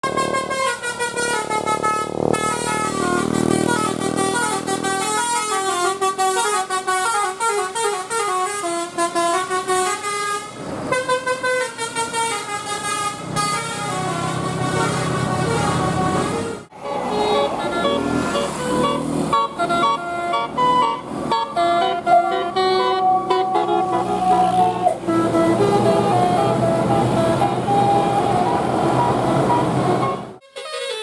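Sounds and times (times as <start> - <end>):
multi-trumpet air horn melody: 0.0 - 31.0.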